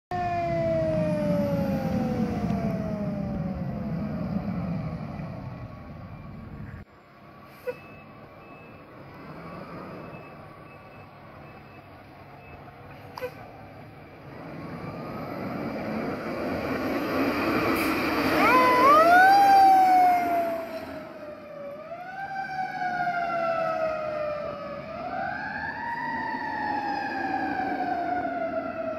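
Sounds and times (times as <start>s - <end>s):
fire engine siren: 0.1s - 6.7s, 7.5s - 28.9s.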